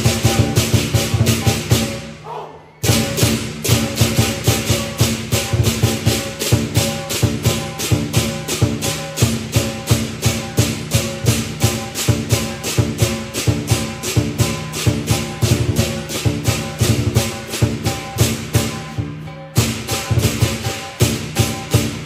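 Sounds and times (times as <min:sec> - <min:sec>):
drum: 0:00.0 - 0:02.2, 0:02.8 - 0:22.0
cymbals: 0:00.0 - 0:22.0
gong: 0:02.8 - 0:22.0.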